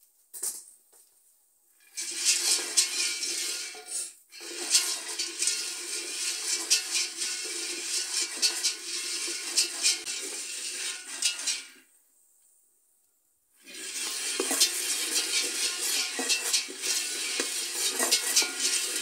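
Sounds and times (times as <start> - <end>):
peanuts rattling in metal pot: 1.8 - 11.8, 13.6 - 19.0.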